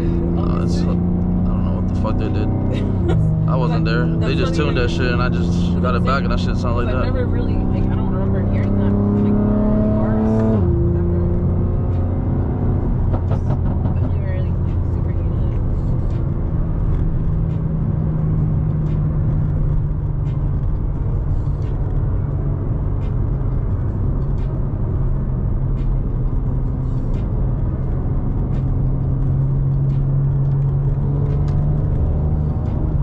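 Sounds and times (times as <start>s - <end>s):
car engine droning: 0.0s - 33.0s
tyre and road noise: 0.0s - 33.0s.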